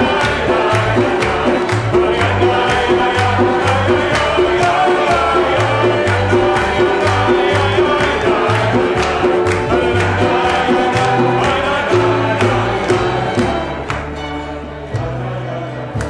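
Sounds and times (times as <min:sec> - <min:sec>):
acoustic guitar: 0:00.0 - 0:16.0
group singing in unison: 0:00.0 - 0:16.0
upright bass: 0:00.0 - 0:16.0.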